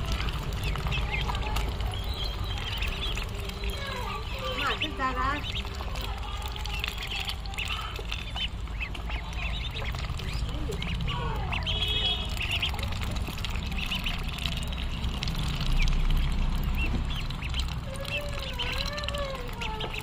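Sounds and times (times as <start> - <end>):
ducklings peeping: 0.0 - 20.0
low background rumble: 0.0 - 20.0.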